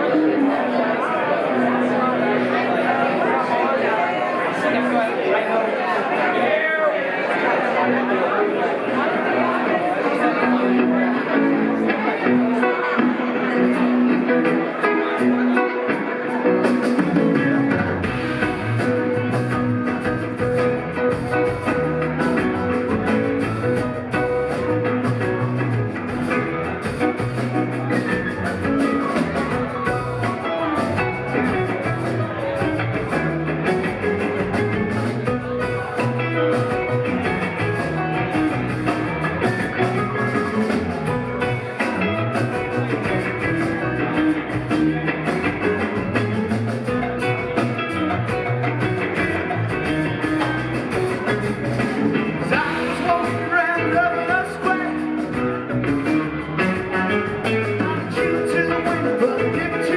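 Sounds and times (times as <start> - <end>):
electric guitar: 0.0 - 5.3, 7.5 - 59.9
keyboard: 0.0 - 59.9
bass: 7.8 - 59.9
drums: 8.9 - 59.9.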